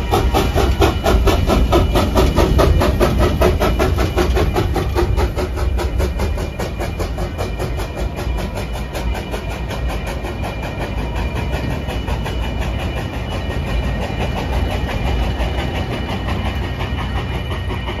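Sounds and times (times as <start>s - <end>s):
crossing bell ringing: 0.0s - 18.0s
train wheels clattering on rails: 0.0s - 18.0s.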